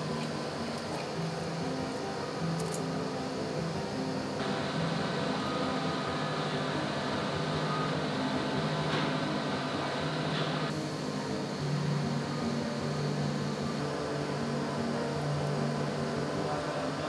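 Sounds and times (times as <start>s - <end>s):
fan hum: 0.0s - 17.0s
stepper motors humming: 0.0s - 17.0s.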